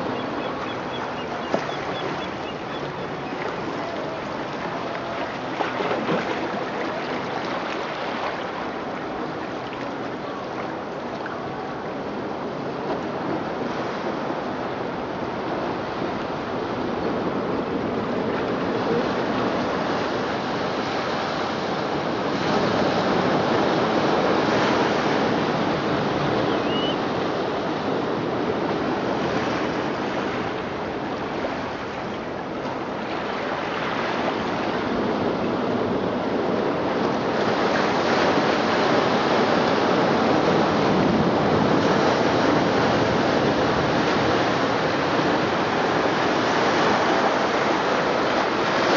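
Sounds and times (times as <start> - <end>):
ocean waves through speakers: 0.0 - 48.9.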